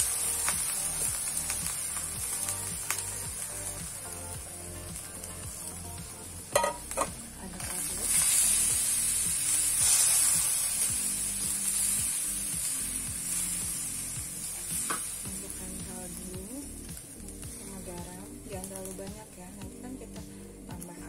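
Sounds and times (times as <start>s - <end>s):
rice sizzling in hot oil: 0.0s - 19.6s.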